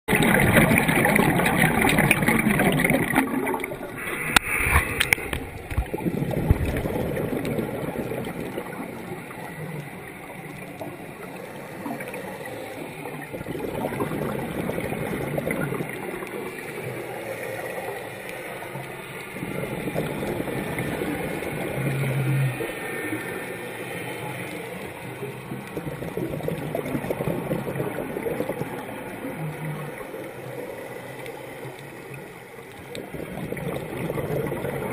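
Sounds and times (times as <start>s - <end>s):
underwater exhaled bubbles: 0.1s - 34.9s.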